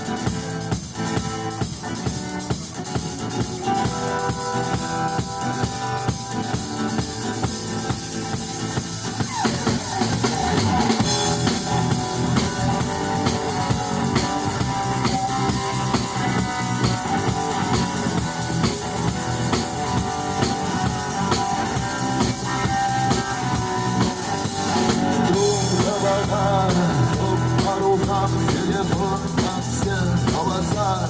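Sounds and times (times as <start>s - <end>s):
drum kit beat: 0.0s - 31.0s
electric guitar: 0.0s - 31.0s.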